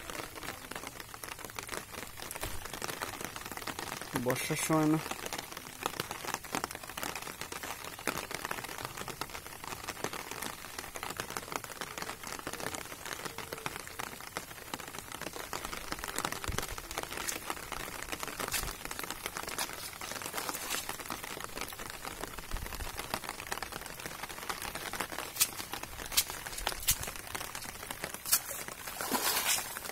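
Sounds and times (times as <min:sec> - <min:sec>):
rain falling on a pond: 0:00.0 - 0:29.9.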